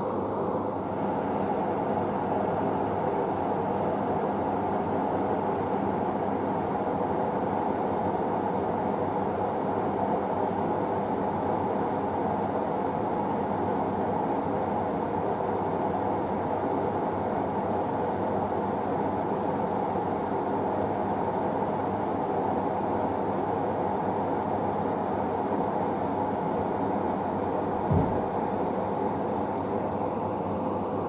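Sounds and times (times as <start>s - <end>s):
faint hum: 0.0s - 31.0s.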